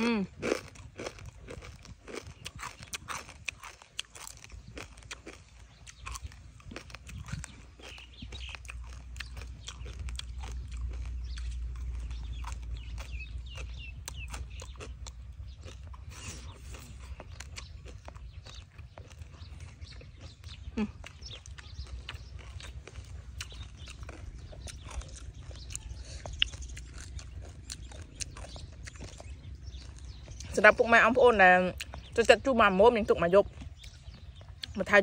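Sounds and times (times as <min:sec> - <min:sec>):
crunchy chewing: 0:00.0 - 0:35.0
low rumble: 0:04.3 - 0:34.7.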